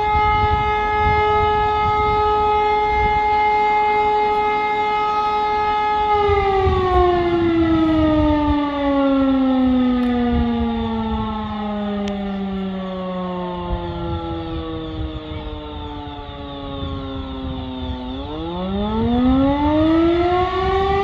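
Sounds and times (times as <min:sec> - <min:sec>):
civil defence siren: 0:00.0 - 0:21.0.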